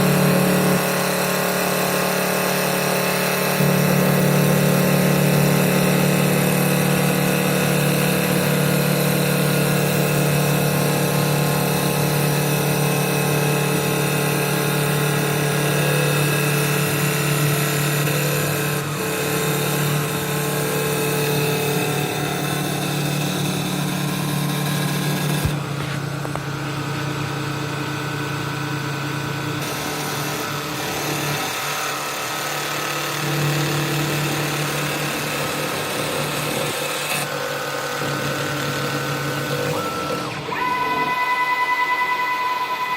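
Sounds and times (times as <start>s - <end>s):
lathe machine hum: 0.0s - 42.9s.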